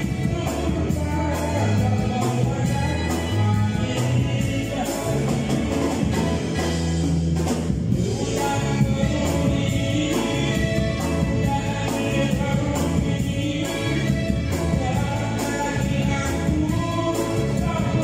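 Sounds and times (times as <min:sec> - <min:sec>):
man singing: 0:00.0 - 0:06.9, 0:07.9 - 0:18.0
drum kit steady beat: 0:00.0 - 0:18.0
electric guitar: 0:00.0 - 0:18.0
electric keyboard: 0:00.0 - 0:18.0.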